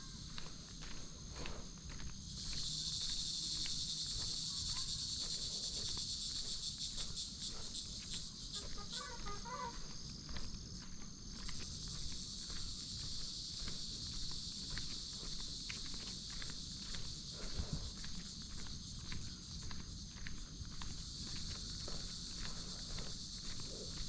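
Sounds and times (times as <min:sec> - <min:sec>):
faint footsteps on a path: 0:00.0 - 0:24.0
insects buzzing: 0:00.0 - 0:24.0.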